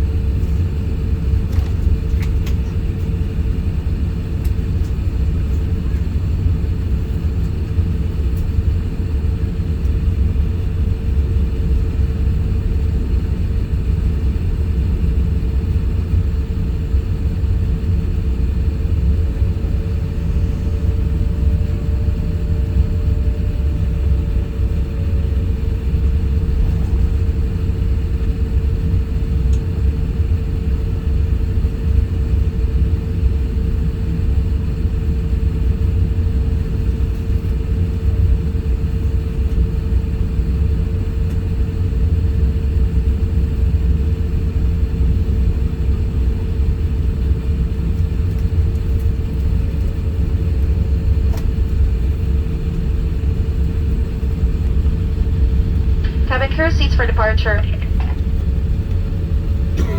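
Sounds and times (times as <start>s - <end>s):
low rumble inside aircraft cabin: 0.0s - 59.9s
mid-pitched hum: 0.0s - 59.9s.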